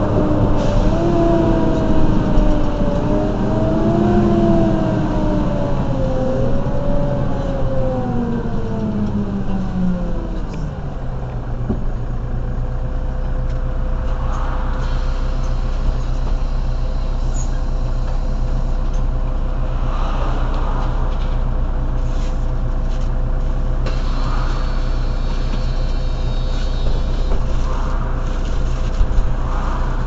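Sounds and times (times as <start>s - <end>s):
bus engine idling: 0.0s - 30.0s
constant whine: 0.0s - 30.0s.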